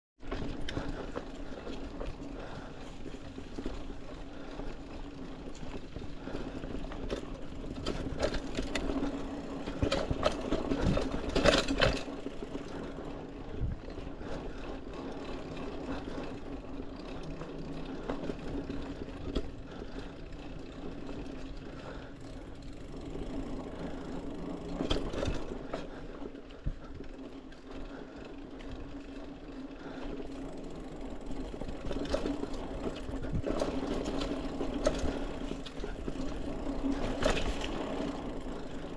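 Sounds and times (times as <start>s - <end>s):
bike rattling over bumps: 0.2s - 38.9s
bike tyres humming on dirt: 0.2s - 38.9s.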